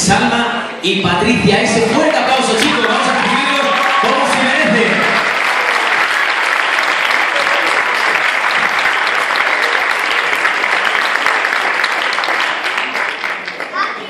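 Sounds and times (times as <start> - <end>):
audience applauding: 1.8 - 14.0.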